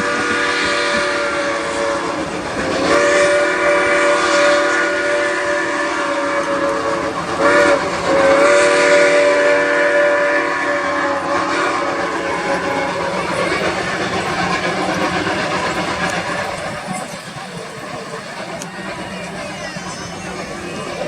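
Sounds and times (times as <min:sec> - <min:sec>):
steam locomotive whistle blasts: 0:00.0 - 0:20.2
moving train noise: 0:00.0 - 0:21.0.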